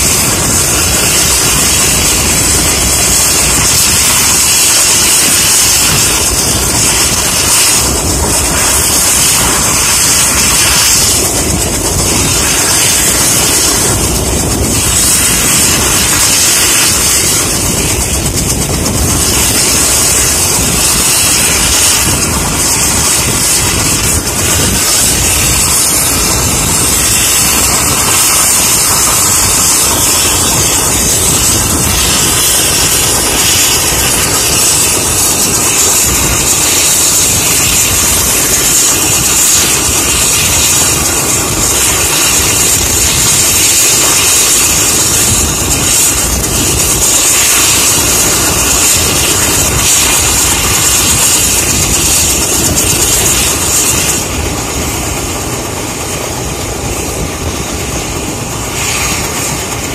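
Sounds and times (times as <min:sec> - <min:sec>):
helicopter turbine hiss: 0:00.0 - 0:59.9
rumbling helicopter rotor: 0:00.0 - 0:59.9.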